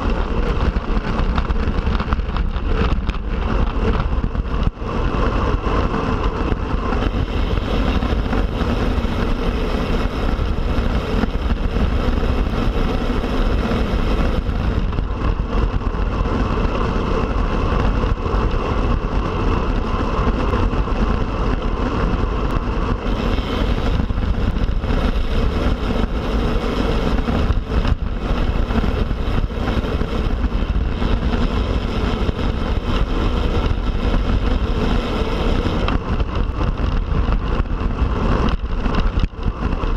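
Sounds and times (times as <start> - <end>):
road and tyre noise: 0.0 - 39.9
wind over microphone: 0.0 - 39.9.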